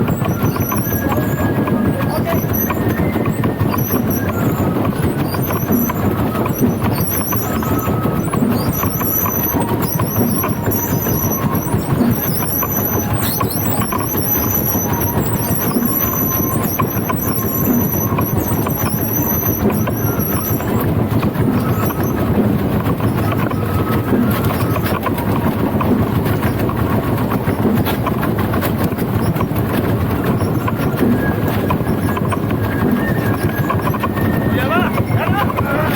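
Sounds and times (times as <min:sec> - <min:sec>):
float rolling rumble: 0:00.0 - 0:35.9
wheels squealing: 0:00.0 - 0:35.9.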